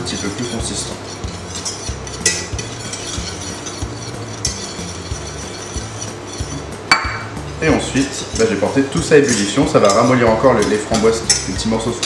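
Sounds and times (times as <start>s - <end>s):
whisk scraping metal saucepan: 0.0s - 12.0s.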